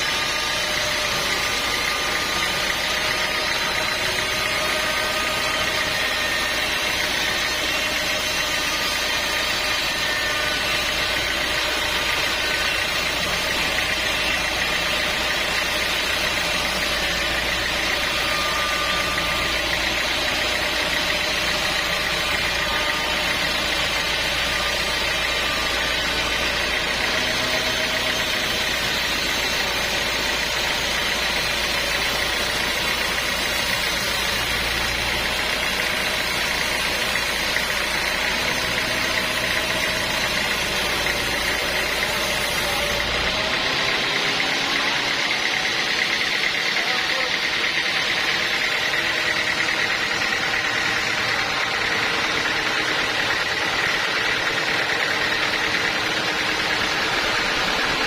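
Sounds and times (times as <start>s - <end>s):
high steady whine: 0.0s - 58.0s
sawmill engine rumbling: 0.0s - 58.0s.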